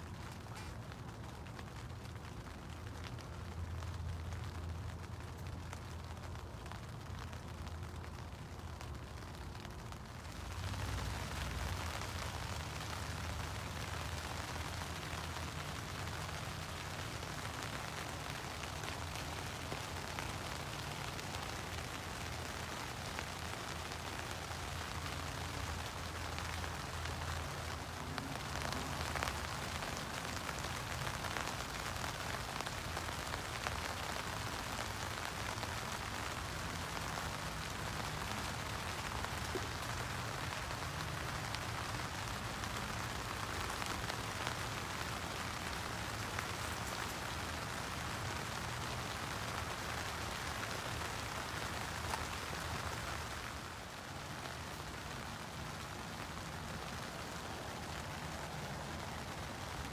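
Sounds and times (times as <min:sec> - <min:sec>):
rain on tent fabric: 0:00.0 - 0:59.9.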